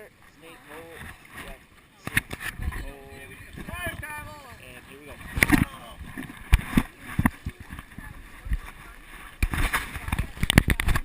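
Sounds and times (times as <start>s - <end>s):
rushing river water: 0.0s - 11.0s
water hitting a raft: 0.0s - 11.0s.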